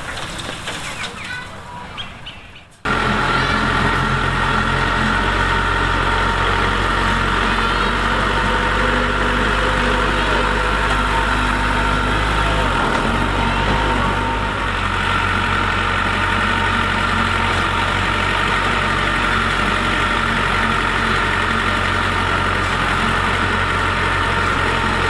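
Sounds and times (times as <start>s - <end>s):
heavy diesel engine running: 2.8s - 25.0s.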